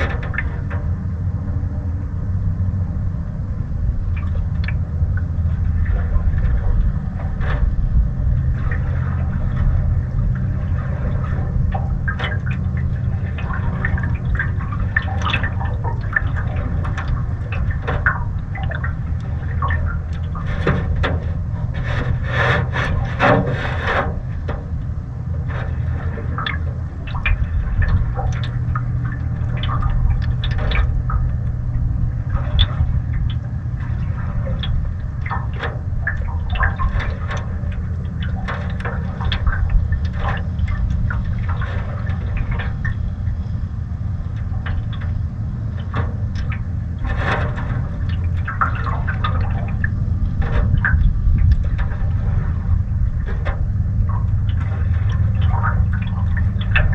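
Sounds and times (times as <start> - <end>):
water lapping against hull: 0.0 - 56.9
wind rumble on microphone: 0.0 - 56.9.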